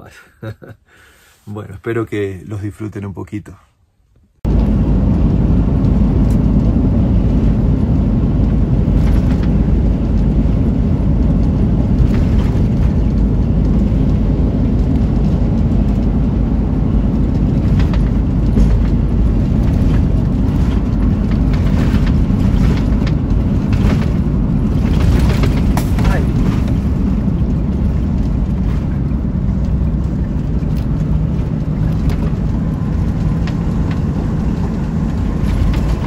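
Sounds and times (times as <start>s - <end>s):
road and wind noise in vehicle: 4.0s - 36.0s.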